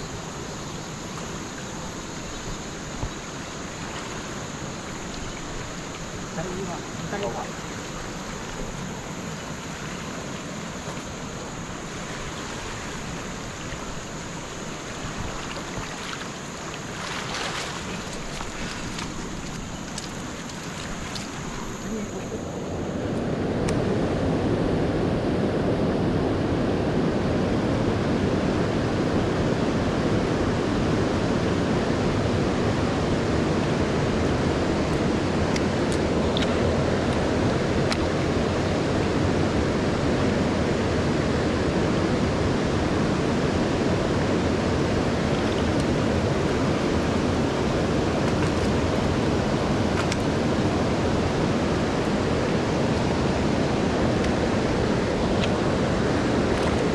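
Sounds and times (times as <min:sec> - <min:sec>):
river water rushing over rapids: 0:00.0 - 0:25.5, 0:26.3 - 0:56.9.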